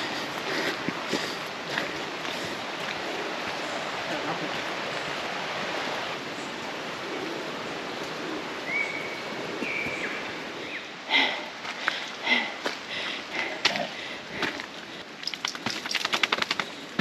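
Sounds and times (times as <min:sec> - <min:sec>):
steady outdoor rushing noise: 0:00.0 - 0:17.0.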